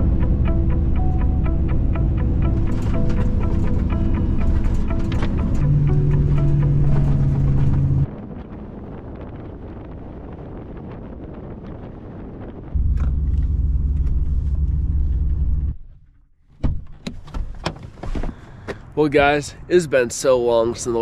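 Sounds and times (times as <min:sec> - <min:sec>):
vehicle engine rumble: 0:00.0 - 0:19.8.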